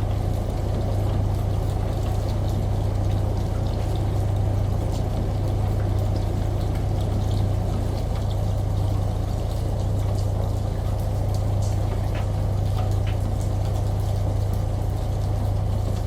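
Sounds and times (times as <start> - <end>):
faint drip-like ticks: 0.0 - 16.0
washing machine humming: 0.0 - 16.0.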